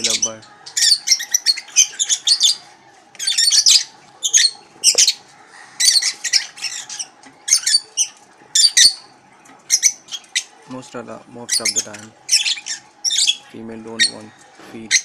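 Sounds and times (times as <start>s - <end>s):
lovebirds squawking: 0.0s - 15.0s.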